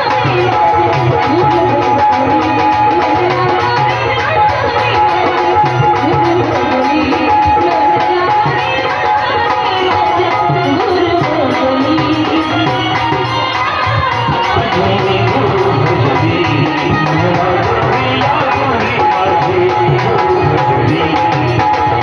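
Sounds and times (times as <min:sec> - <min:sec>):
person singing: 0:00.0 - 0:22.0
steady drum accompaniment: 0:00.0 - 0:22.0.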